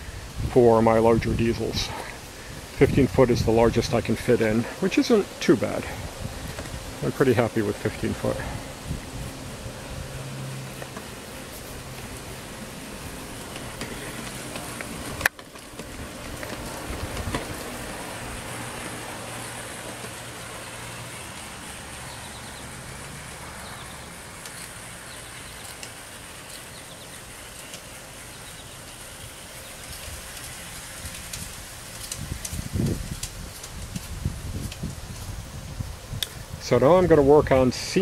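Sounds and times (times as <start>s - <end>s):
model locomotive motor hum: 0.0s - 38.0s
wheel noise on rails: 0.0s - 38.0s.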